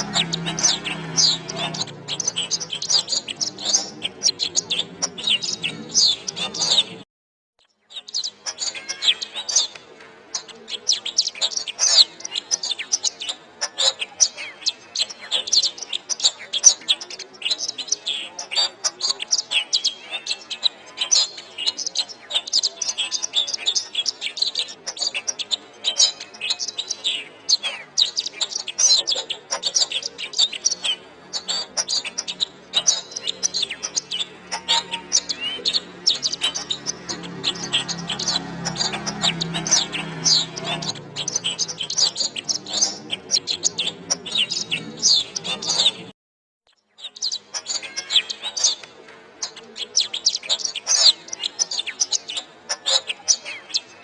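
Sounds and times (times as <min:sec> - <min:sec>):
canary singing: 0:00.0 - 0:07.0, 0:07.7 - 0:46.1, 0:46.7 - 0:54.0.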